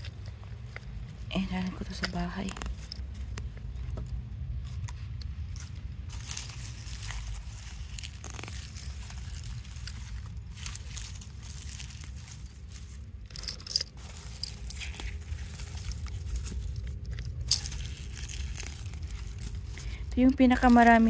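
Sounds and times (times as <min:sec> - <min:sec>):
dry onion tops rustling: 0:00.0 - 0:21.0
steady low rumble: 0:00.0 - 0:21.0.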